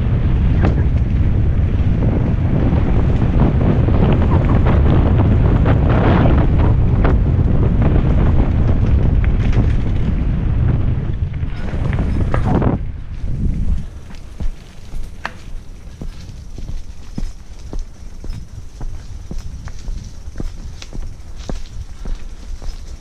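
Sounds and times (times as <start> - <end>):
tyres rumbling on dirt trail: 0.0 - 23.0
wind buffeting microphone: 0.0 - 23.0
bike knocks and rattles: 3.2 - 10.3, 11.4 - 23.0.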